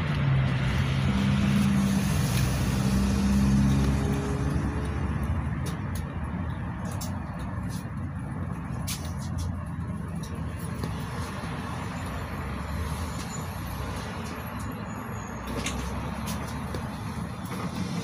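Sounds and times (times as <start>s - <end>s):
minibus engine: 0.0s - 18.0s
road noise: 0.0s - 18.0s.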